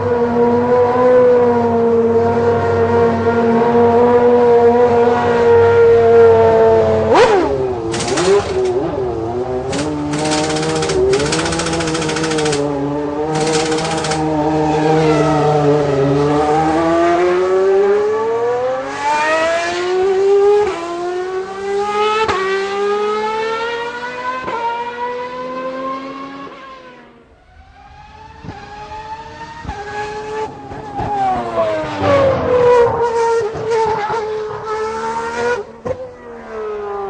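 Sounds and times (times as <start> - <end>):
racing car engine at high revs: 0.0 - 37.0.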